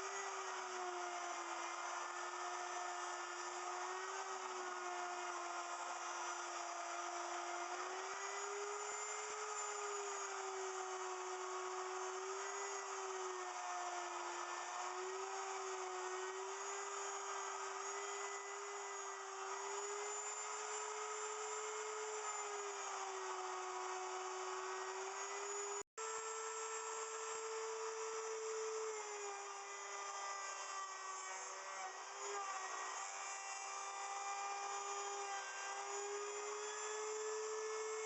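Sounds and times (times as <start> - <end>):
router cutting into wood: 0.0 - 38.0.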